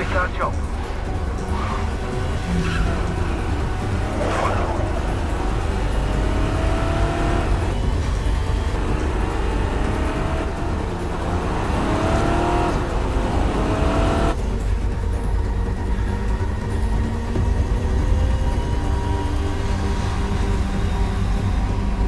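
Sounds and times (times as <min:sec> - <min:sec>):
car engines revving: 0:00.0 - 0:22.0
low road rumble: 0:00.0 - 0:22.0.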